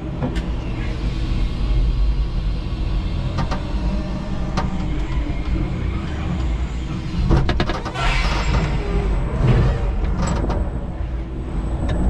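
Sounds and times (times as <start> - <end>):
forklift hum and rumble: 0.0 - 12.0.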